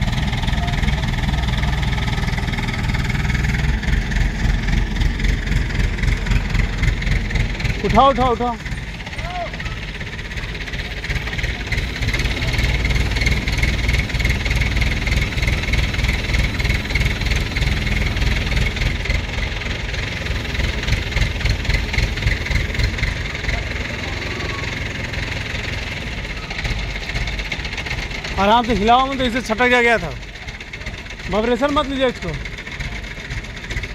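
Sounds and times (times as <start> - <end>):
crane engine running: 0.0 - 33.9.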